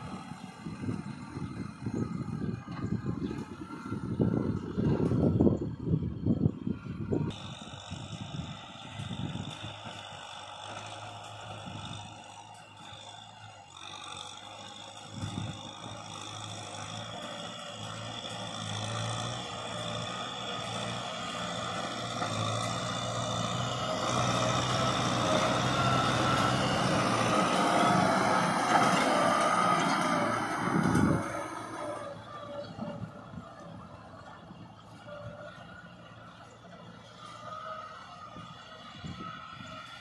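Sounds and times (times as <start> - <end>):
tractor diesel engine running: 0.0 - 40.0
rotary tiller churning soil: 7.3 - 40.0.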